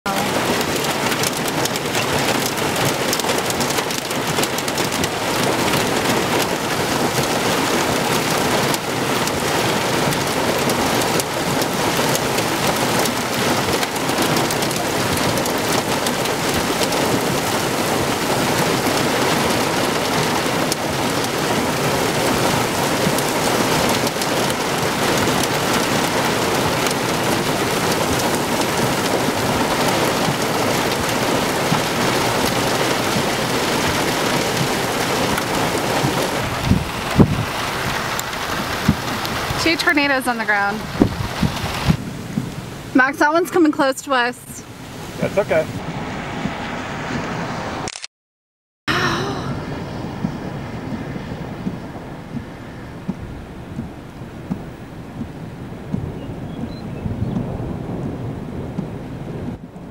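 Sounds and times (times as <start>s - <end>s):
rain falling steadily: 0.1s - 47.6s, 48.9s - 59.9s.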